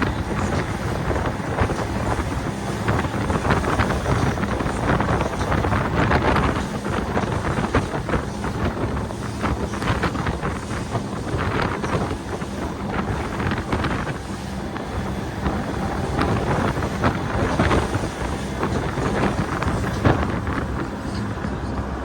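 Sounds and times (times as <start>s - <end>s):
boat engine hum: 0.0s - 22.0s
hull slapping waves: 0.0s - 22.0s
wind buffeting microphone: 0.0s - 22.0s.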